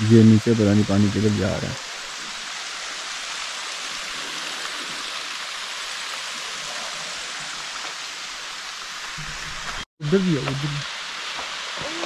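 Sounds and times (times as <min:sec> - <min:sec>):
waterfall hiss: 0:00.0 - 0:12.0.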